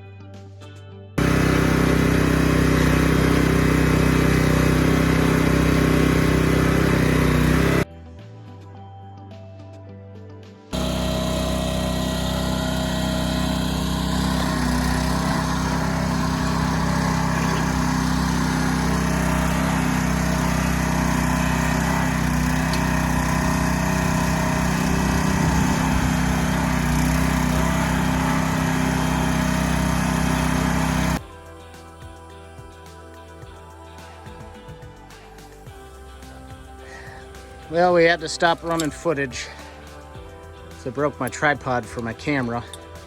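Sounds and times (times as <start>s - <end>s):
small gas engine running: 1.2s - 7.9s, 10.7s - 31.8s, 34.2s - 43.0s.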